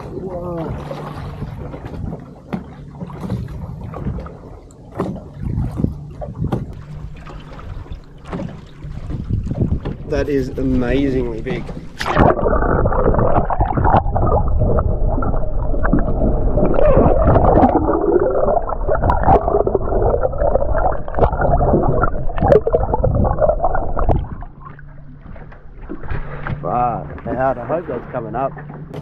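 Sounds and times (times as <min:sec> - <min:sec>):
above water ambience: 0:00.0 - 0:29.0
muffled underwater water sloshing: 0:00.0 - 0:29.0.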